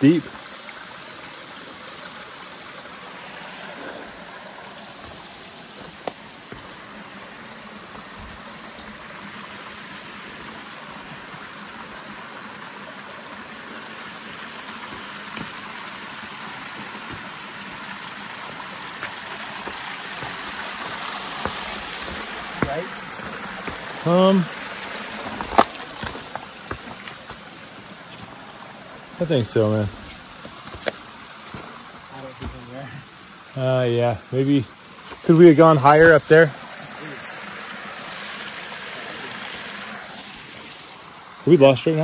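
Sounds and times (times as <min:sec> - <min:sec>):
creek water rushing over rocks: 0:00.0 - 0:42.0.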